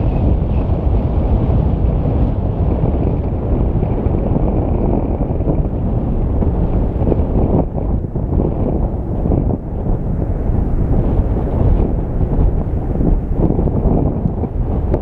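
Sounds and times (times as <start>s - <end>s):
volcano low rumble: 0.0s - 15.0s
wind buffeting microphone: 0.0s - 15.0s.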